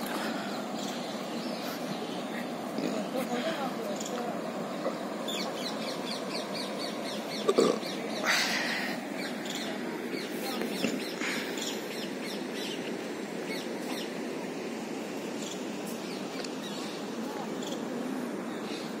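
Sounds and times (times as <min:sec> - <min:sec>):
small birds chirping: 0:00.0 - 0:14.3, 0:15.1 - 0:19.0
outdoor background hiss: 0:00.0 - 0:19.0.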